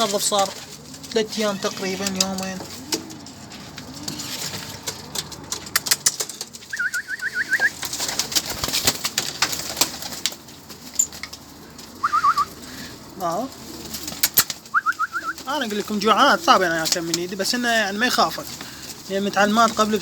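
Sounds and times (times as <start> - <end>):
beaks pecking at feed: 0.0 - 20.0
pigeon cooing: 0.0 - 20.0
young pigeon peeping: 0.0 - 20.0.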